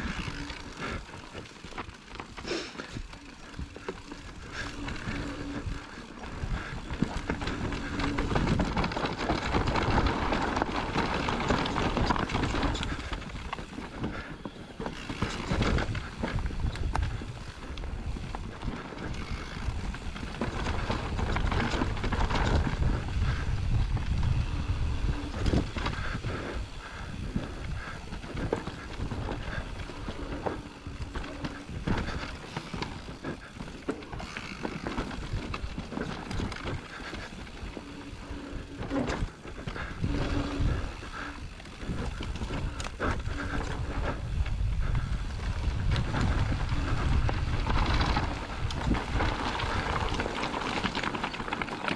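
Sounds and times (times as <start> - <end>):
bike rattling over roots: 0.0 - 51.9
bike tyres skidding over dirt: 0.0 - 51.9
wind buffeting microphone: 2.8 - 51.9.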